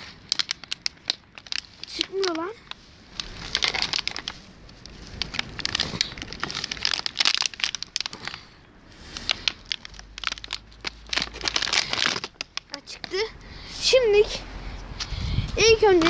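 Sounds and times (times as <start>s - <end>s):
plastic crinkling: 0.0s - 13.3s.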